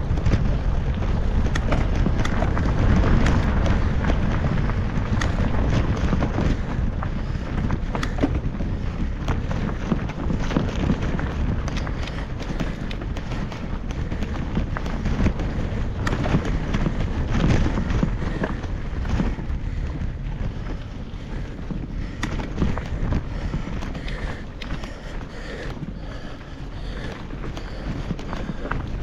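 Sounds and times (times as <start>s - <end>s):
sharp clicks and crackles: 0.0s - 29.0s
wind buffeting microphone: 0.0s - 29.0s.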